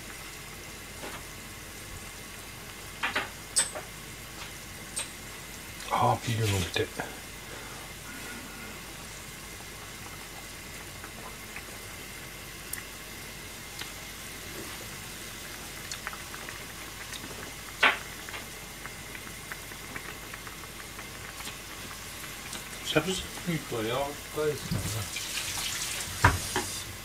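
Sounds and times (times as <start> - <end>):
soup bubbling in a pan: 0.0 - 27.0.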